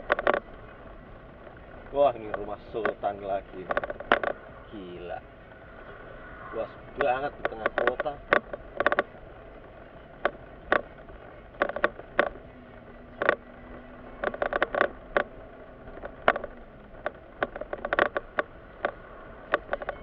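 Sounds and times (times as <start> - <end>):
low cabin hum: 0.0 - 20.0
rattling clicks in car cabin: 0.0 - 20.0.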